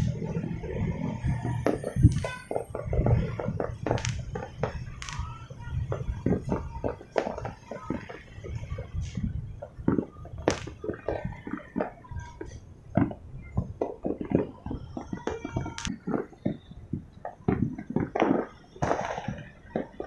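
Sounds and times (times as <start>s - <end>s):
fireworks popping and banging: 0.0s - 20.0s.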